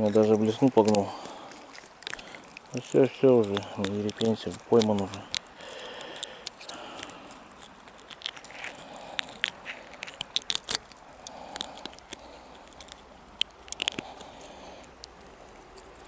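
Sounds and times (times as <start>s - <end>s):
sharp clicks and rustles: 0.0s - 16.0s.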